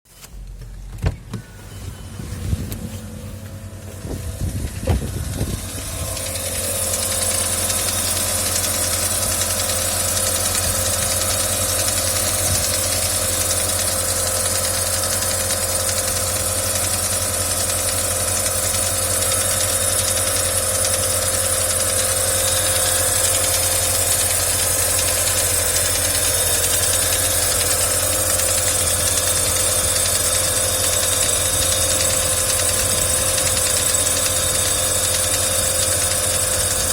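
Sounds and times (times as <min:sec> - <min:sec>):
car engine starting and idling: 0:00.1 - 0:36.9.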